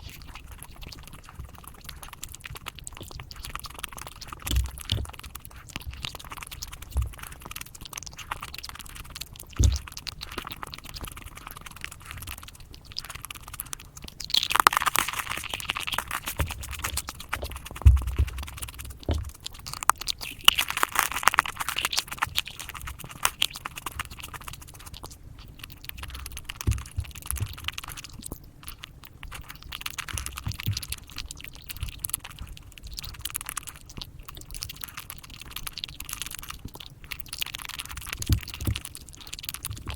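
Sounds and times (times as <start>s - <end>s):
chewing and crunching chocolate: 0.0s - 39.9s.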